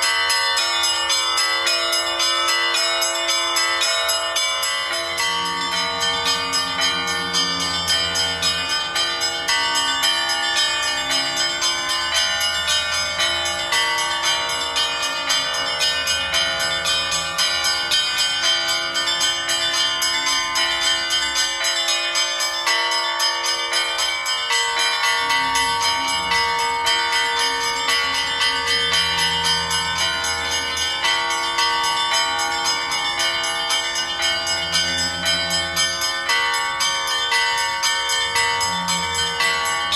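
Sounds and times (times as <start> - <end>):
bells ringing: 0.0 - 39.9.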